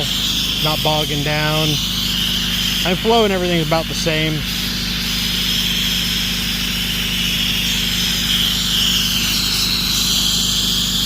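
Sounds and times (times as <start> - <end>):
gas engine running: 0.0 - 11.0
high-pressure water spray hiss: 0.0 - 11.0.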